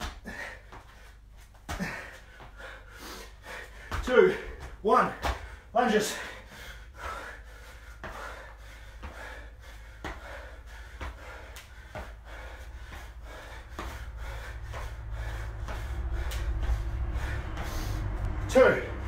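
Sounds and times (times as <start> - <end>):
sneaker footfalls on concrete: 0.0 - 2.7, 3.6 - 6.4, 7.0 - 17.8
man breathing hard: 0.0 - 19.0
steady low hum: 0.0 - 19.0.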